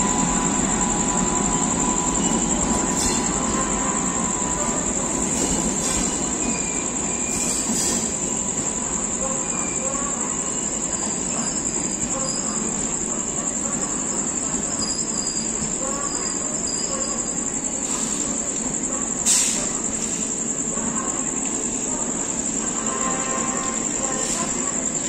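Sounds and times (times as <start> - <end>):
crickets trilling: 0.0 - 25.0
train coaches rumbling: 0.0 - 25.0.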